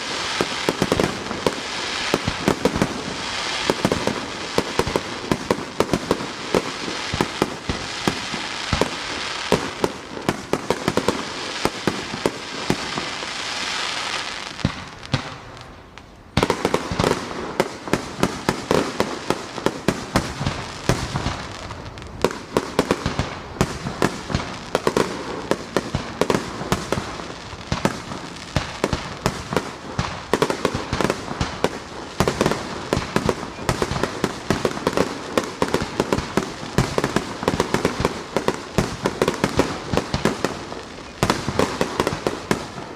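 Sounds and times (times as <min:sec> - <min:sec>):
fireworks bangs and crackle: 0:00.0 - 0:42.9.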